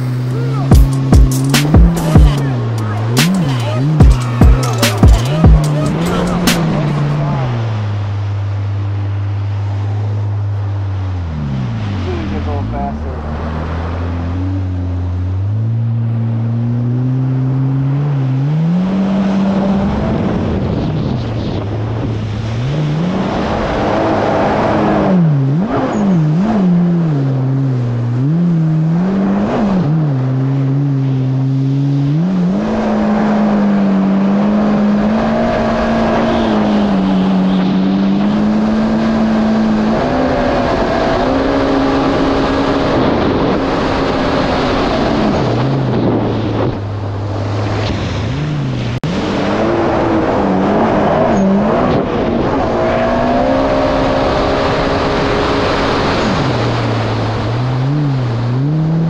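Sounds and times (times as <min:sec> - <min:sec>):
jet ski engine running: 0:00.0 - 0:59.0
water rushing and spraying: 0:00.0 - 0:59.0.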